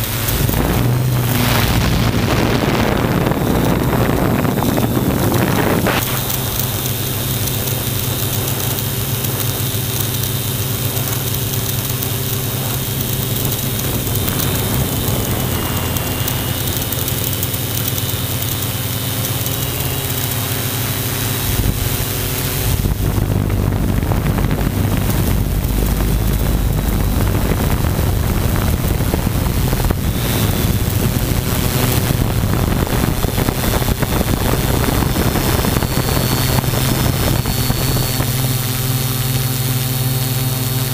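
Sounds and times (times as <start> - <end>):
drone propellers whirring: 0.0 - 40.9
wind on microphone: 0.0 - 40.9.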